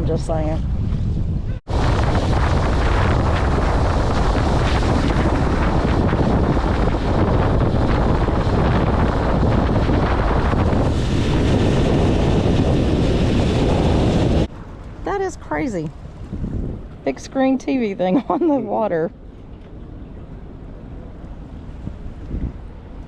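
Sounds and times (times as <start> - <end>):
wind buffeting microphone: 0.0 - 23.0
water rushing: 1.7 - 23.0.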